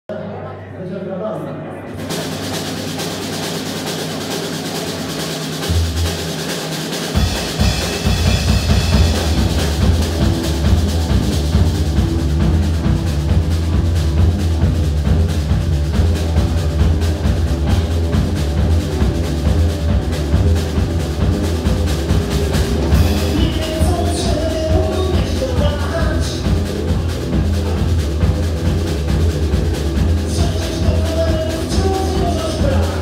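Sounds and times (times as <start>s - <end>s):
cymbals: 1.9s - 33.0s
deep bass line: 1.9s - 33.0s
rock band playing: 1.9s - 33.0s.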